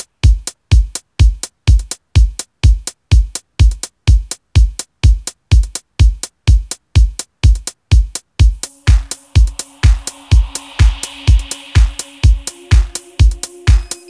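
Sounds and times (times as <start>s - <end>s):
deep kick drum: 0.0s - 14.0s
electronic dance music: 0.0s - 14.0s
sharp hi-hat strikes: 0.0s - 14.0s.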